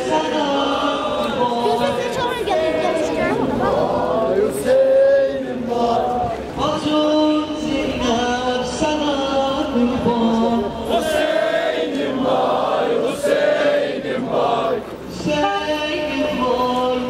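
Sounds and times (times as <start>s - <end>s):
crowd chanting in unison: 0.0s - 17.0s.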